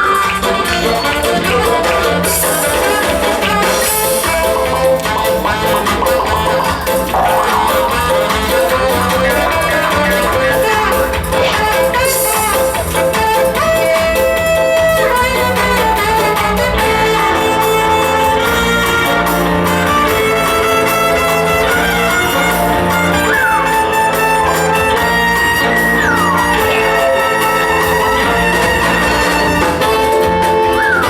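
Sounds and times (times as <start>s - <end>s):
instrumental show music: 0.0s - 31.0s.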